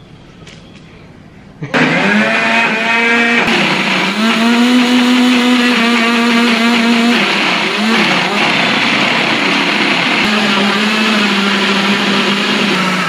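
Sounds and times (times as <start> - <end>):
blender motor whining: 1.8 - 13.0.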